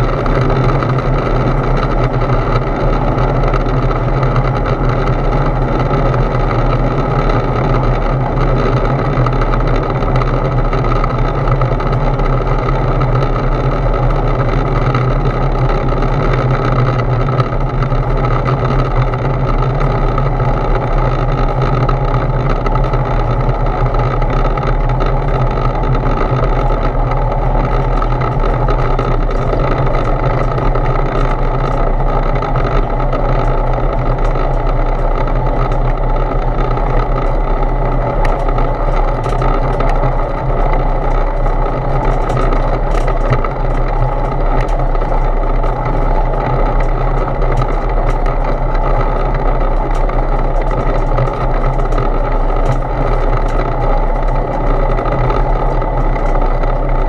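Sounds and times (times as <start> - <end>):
light aircraft engine droning: 0.0 - 57.0.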